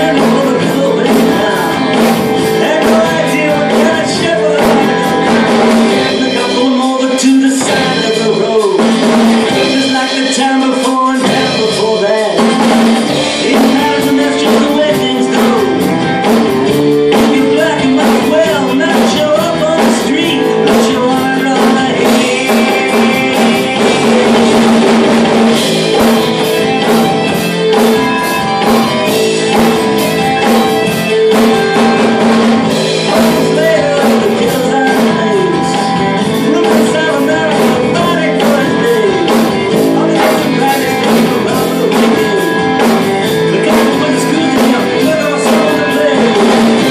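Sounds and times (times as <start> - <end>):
acoustic drum kit played live: 0.0 - 46.9
rock song with singing: 0.0 - 46.9.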